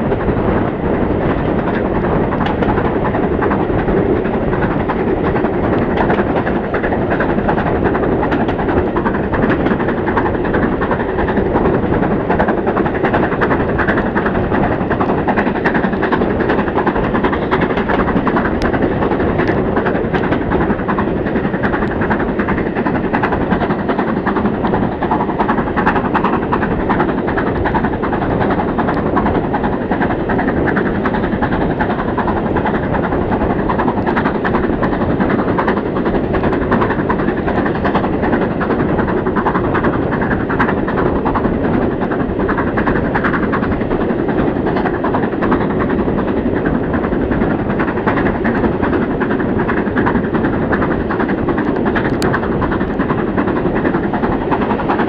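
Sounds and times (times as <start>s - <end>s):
steam train rushing: 0.0s - 55.0s.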